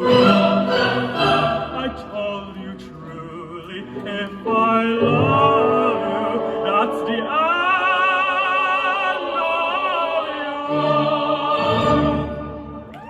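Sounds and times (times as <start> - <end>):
operatic singing with vibrato: 0.0 - 13.0.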